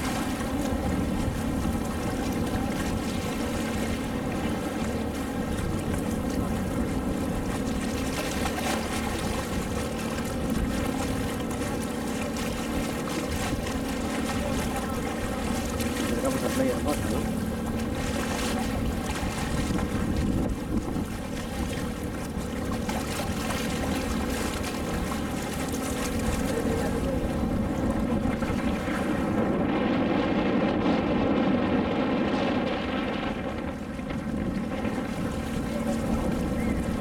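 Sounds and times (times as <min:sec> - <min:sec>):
boat engine humming: 0:00.0 - 0:37.0
water rushing: 0:00.0 - 0:37.0
wind on microphone: 0:00.0 - 0:37.0.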